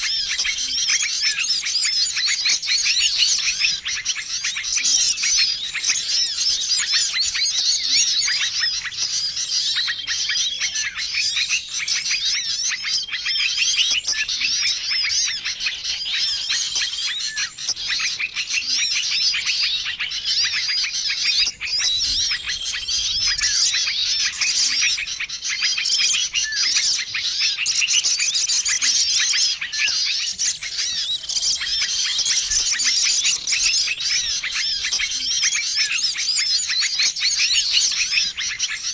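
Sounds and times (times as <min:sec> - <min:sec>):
songbirds chirping and twittering: 0:00.0 - 0:38.9.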